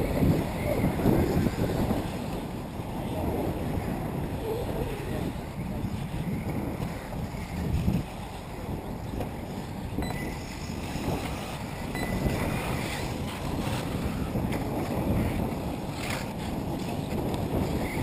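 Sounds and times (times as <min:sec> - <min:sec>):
faint whines of electric rc buggies: 0:00.0 - 0:18.0
wind rumbling on microphone: 0:00.0 - 0:18.0.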